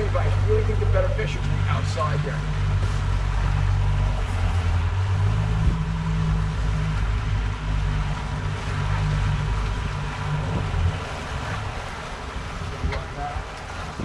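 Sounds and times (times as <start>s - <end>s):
outboard motors droning: 0.0s - 14.0s
water washing behind boat: 0.0s - 14.0s.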